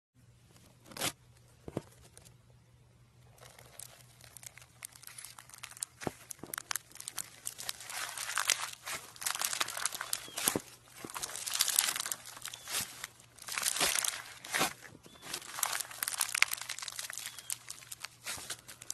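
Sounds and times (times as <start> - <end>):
slime beads crackling: 3.4 - 18.9.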